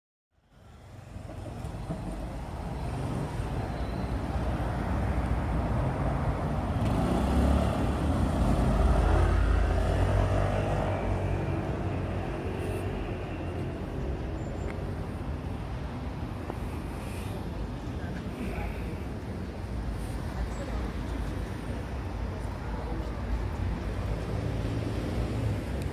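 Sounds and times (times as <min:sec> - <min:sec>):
cars passing: 0:00.5 - 0:25.9.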